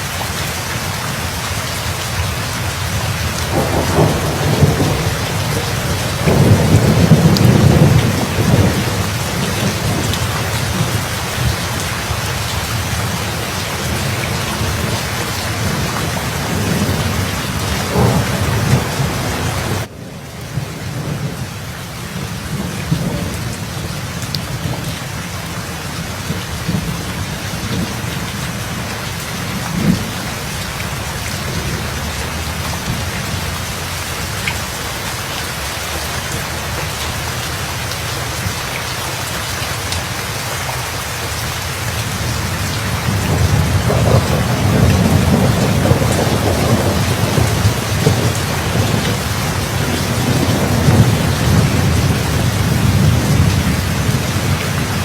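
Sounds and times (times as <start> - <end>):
steady rain: 0.0 - 55.0
low rolling thunder: 3.0 - 34.4, 42.0 - 55.0.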